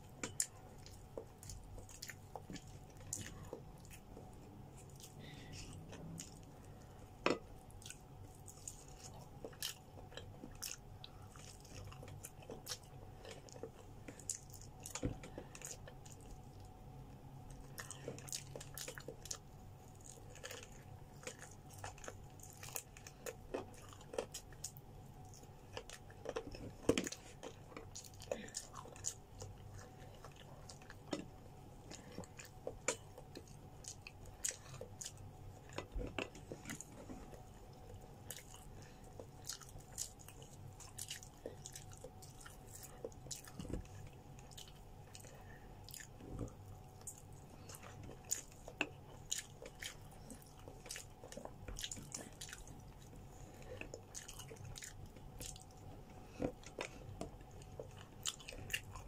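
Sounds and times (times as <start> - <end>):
faint hum: 0.0 - 59.0
person chewing food: 0.0 - 59.0.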